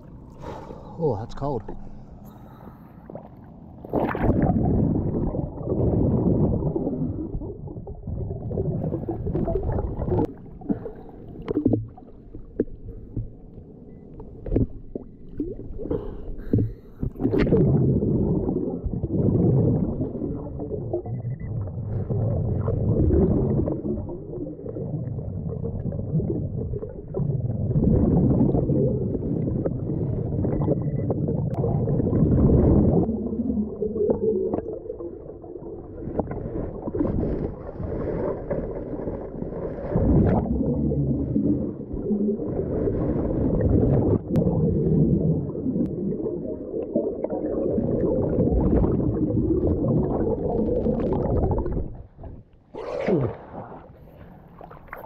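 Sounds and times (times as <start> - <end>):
muffled underwater rumble and sloshing: 0.0 - 55.0.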